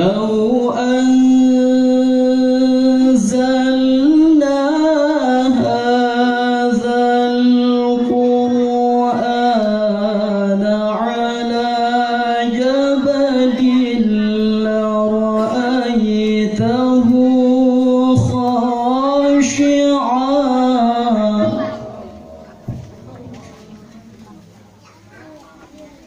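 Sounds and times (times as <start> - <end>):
man reciting melodically: 0.0 - 22.7.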